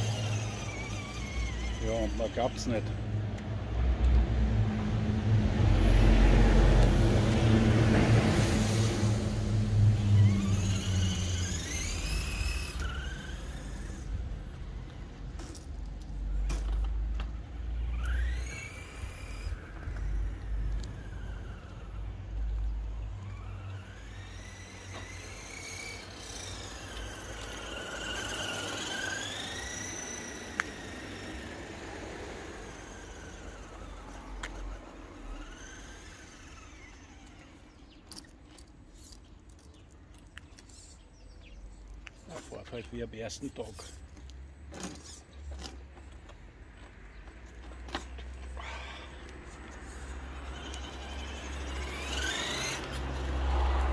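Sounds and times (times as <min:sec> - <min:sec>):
toy truck motor whining: 0:00.0 - 0:03.0, 0:06.5 - 0:46.4, 0:47.2 - 0:53.9.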